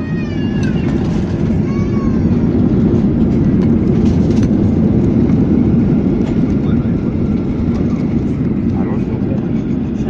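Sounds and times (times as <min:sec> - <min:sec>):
airplane cabin rumble: 0:00.0 - 0:10.0
jet engine noise: 0:00.0 - 0:10.0
wheels rolling on runway: 0:00.0 - 0:10.0.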